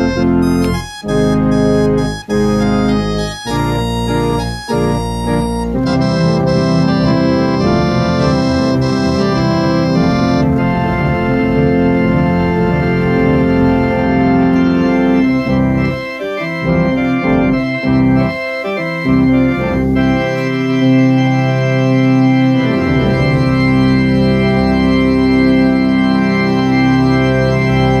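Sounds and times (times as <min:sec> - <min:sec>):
deep organ pedal bass notes: 0:00.0 - 0:28.0
organ playing full chords: 0:00.0 - 0:28.0.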